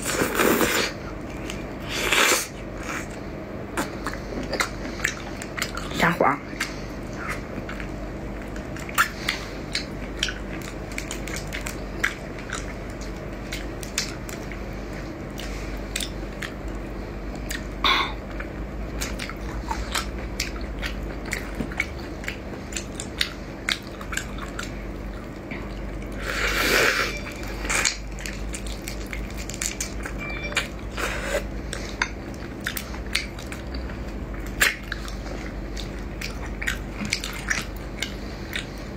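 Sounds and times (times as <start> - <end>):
chewing with crunches: 0.0 - 38.9.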